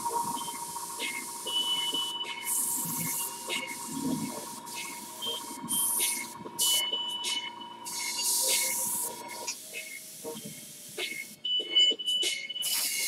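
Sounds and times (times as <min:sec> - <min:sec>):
airbrush spraying hisses: 0:00.0 - 0:06.8, 0:07.9 - 0:11.4, 0:12.6 - 0:13.0.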